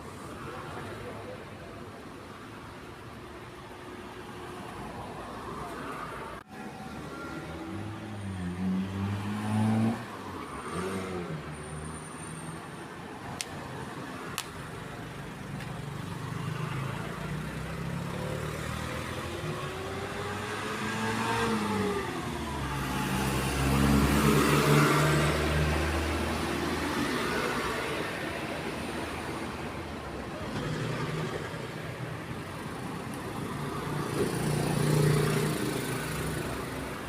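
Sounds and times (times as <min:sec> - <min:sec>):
tyre and road noise: 0:00.0 - 0:37.0
vehicles passing: 0:00.0 - 0:37.0.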